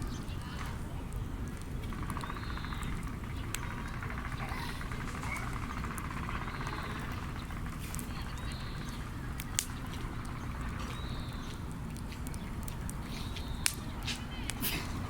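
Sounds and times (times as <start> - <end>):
bonfire rumbling: 0.0 - 15.0
fire crackling pops: 0.0 - 15.0.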